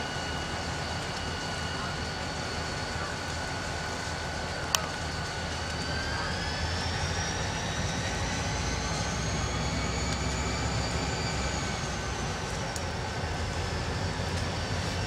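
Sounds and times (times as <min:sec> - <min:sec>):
high whining tones: 0:00.0 - 0:15.0
locomotive engine rumble: 0:00.0 - 0:15.0.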